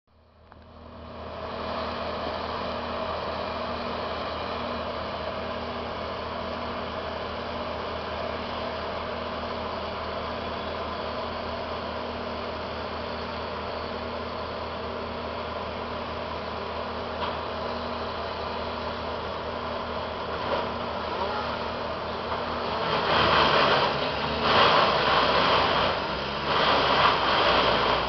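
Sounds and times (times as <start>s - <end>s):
heavy machinery engine running: 0.4s - 28.0s.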